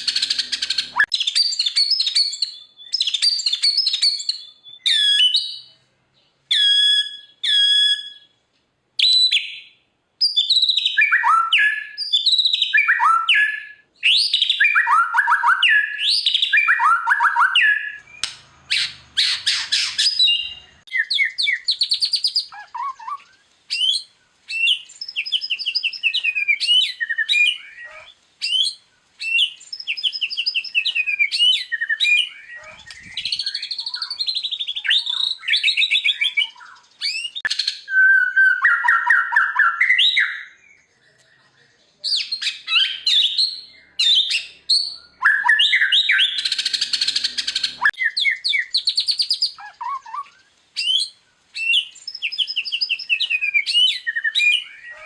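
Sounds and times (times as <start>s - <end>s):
songbird singing whistled phrases: 0.0s - 5.8s, 6.5s - 8.4s, 9.0s - 55.0s.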